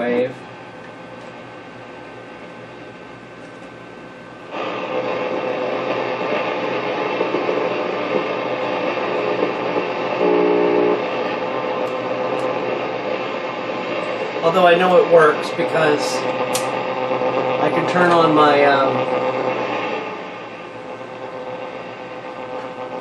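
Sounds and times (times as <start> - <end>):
shortwave radio static hiss: 4.5 - 23.0.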